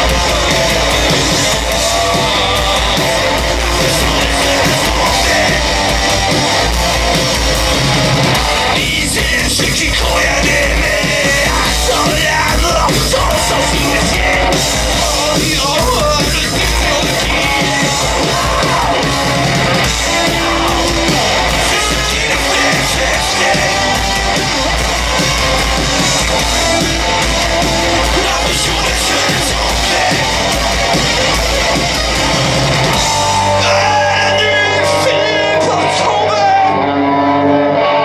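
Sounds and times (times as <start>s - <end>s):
drums: 0.0s - 38.0s
electric guitars: 0.0s - 38.0s.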